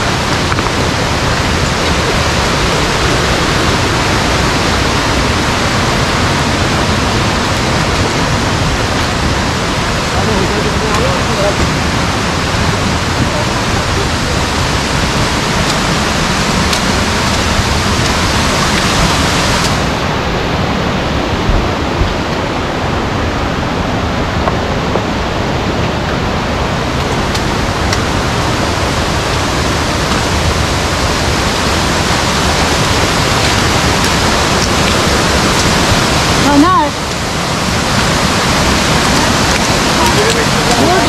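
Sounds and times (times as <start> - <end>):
rushing stream water: 0.0 - 41.0.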